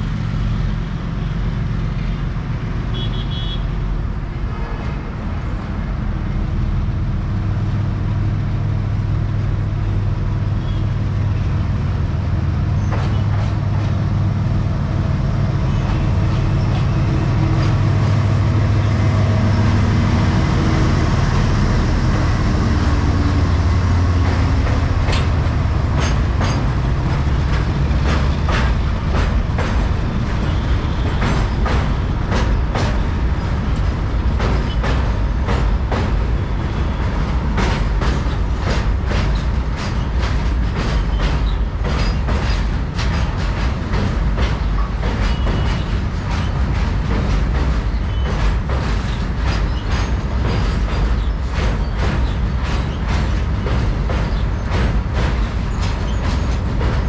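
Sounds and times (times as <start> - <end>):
diesel locomotive engine: 0.0 - 57.0
wheels clattering over rail joints: 9.2 - 57.0.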